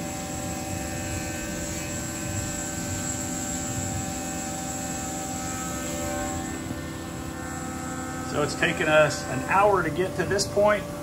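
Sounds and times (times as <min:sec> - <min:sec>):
coolant hissing: 0:00.0 - 0:11.0
machine hum with constant tones: 0:00.0 - 0:11.0.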